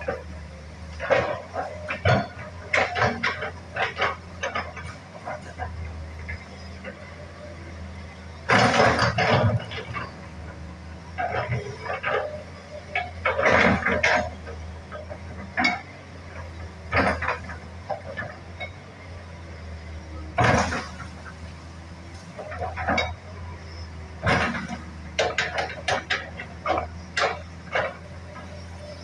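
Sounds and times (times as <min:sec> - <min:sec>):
excavator metallic clanks: 0:00.0 - 0:29.0
low engine hum: 0:00.0 - 0:29.0.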